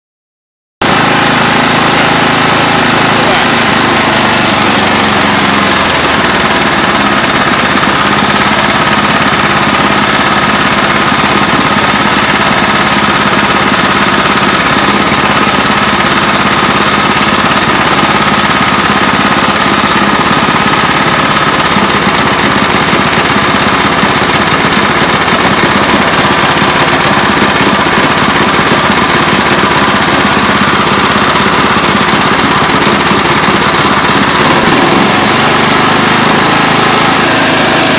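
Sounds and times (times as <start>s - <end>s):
small engine knocking: 0.8s - 37.9s.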